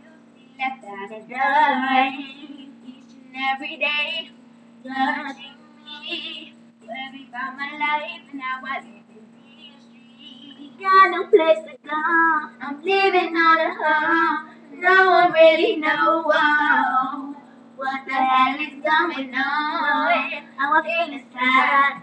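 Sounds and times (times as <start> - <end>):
girls singing: 0.0 - 22.0
steady low hum: 0.0 - 22.0.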